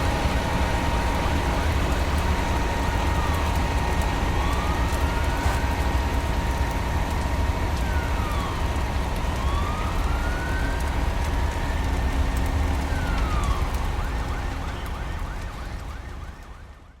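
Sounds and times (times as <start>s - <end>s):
burning wood crackling: 0.0s - 16.8s
fire engine siren wailing: 0.0s - 17.0s.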